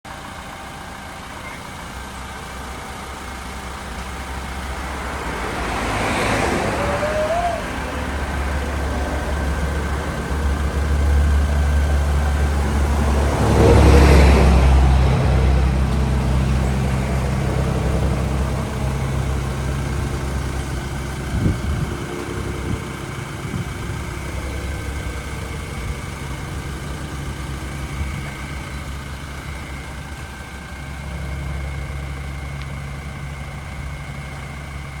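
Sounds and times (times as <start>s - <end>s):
vehicle engine rumble: 0.0s - 35.0s
vehicles passing: 0.2s - 35.0s.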